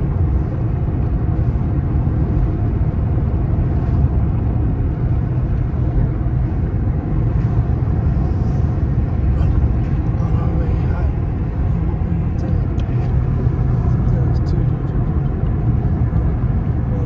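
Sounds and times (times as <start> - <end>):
car engine noise: 0.0 - 17.0
tyres rumbling on road: 0.0 - 17.0.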